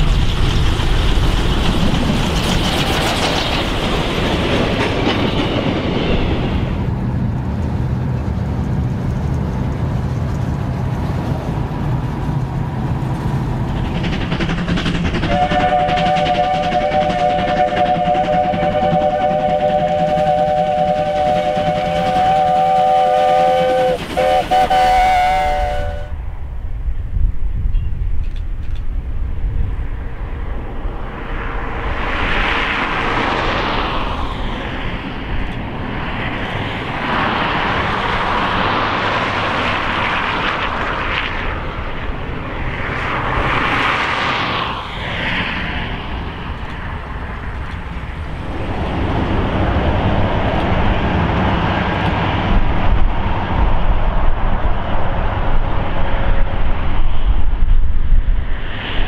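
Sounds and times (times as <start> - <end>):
steam locomotive chugging: 0.0 - 26.4, 31.1 - 57.7.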